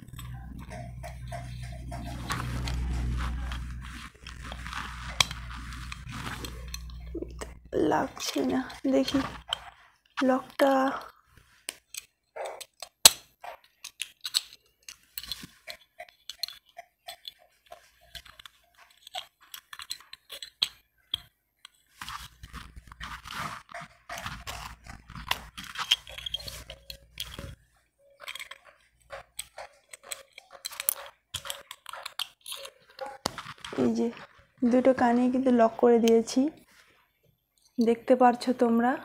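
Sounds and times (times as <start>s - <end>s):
hands rubbing and rustling: 0.0s - 12.6s, 13.4s - 37.3s.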